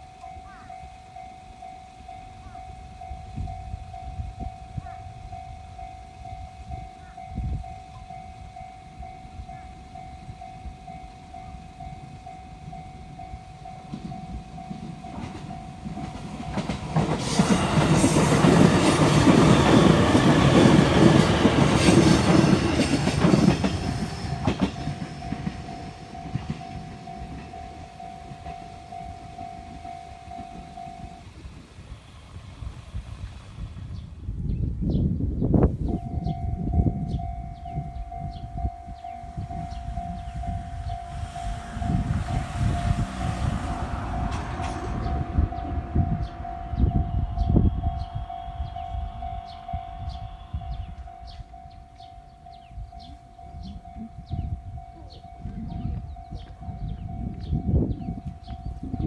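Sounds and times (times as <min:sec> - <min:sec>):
level crossing bell ringing: 0:00.0 - 0:31.3, 0:36.0 - 0:59.0
train passing: 0:00.0 - 0:59.0.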